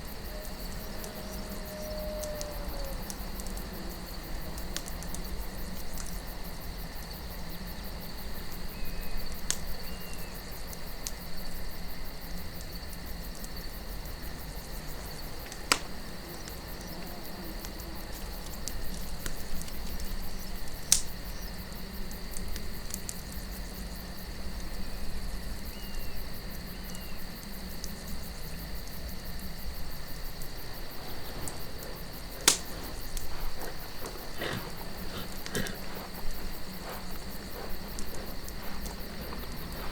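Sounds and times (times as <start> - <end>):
burning wood popping: 0.0 - 11.6, 12.2 - 24.0, 30.0 - 39.9
crickets chirping: 0.0 - 39.9
low wind rumble: 0.0 - 39.9.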